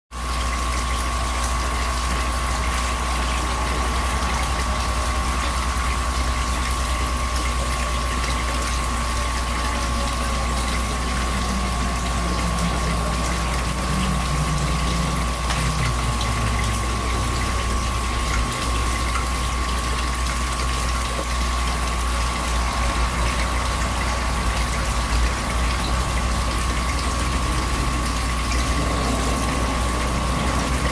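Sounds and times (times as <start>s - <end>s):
low machine hum: 0.2s - 30.9s
water hissing: 1.0s - 30.9s
high whine: 1.1s - 30.9s.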